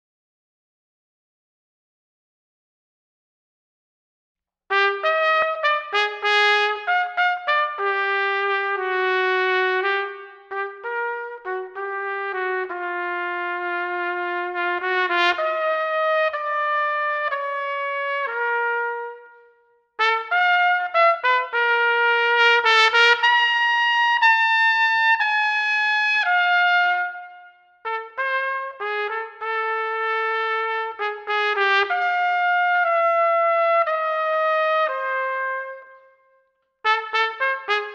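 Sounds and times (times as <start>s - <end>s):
trumpet playing slow melody: 4.7s - 36.2s, 36.8s - 37.9s.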